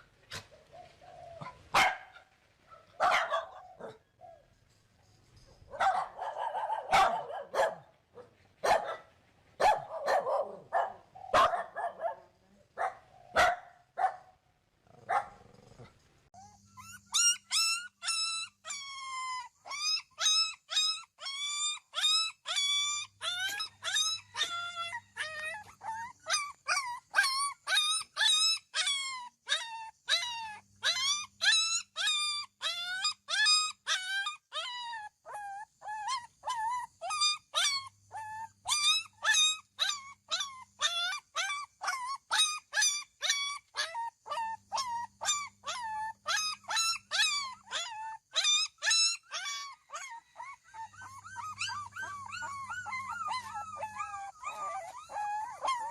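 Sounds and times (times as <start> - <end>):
dog yapping: 0.3 - 4.4, 5.7 - 14.3, 15.0 - 15.6, 16.4 - 55.9.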